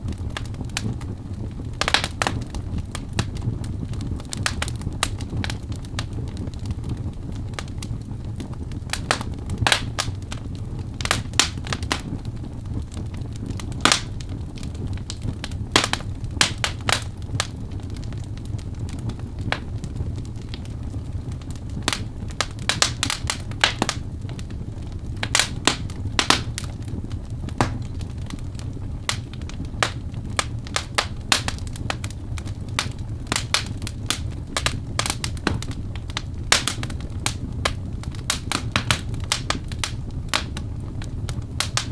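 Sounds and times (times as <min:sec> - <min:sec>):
fire pops and snaps: 0:00.0 - 0:41.9
low rumble of burning: 0:00.0 - 0:41.9
wood fire crackling: 0:00.0 - 0:41.9.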